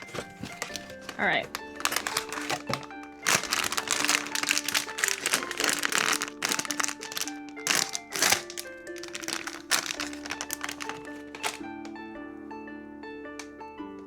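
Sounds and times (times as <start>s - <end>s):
packaging crinkling: 0.0s - 11.9s
light background music: 0.0s - 14.0s.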